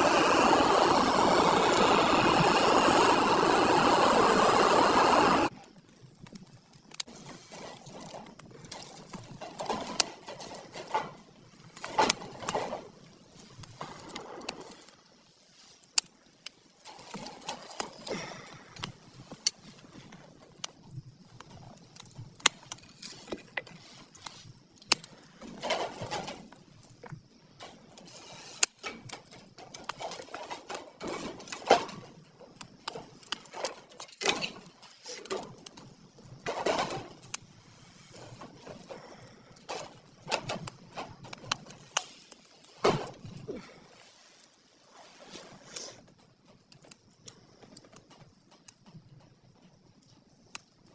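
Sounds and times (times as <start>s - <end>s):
campfire crackling and popping: 0.0s - 30.4s, 32.6s - 44.8s, 45.7s - 50.9s.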